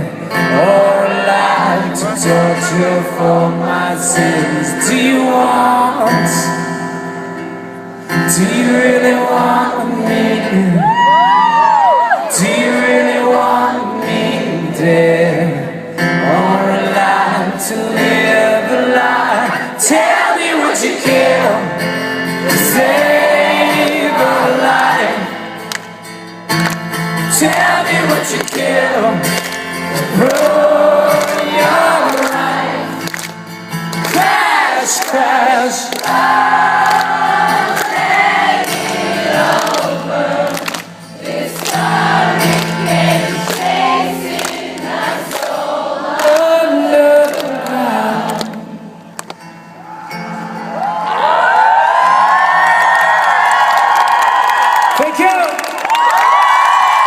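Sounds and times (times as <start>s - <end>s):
live rock band with singing: 0.0s - 51.0s.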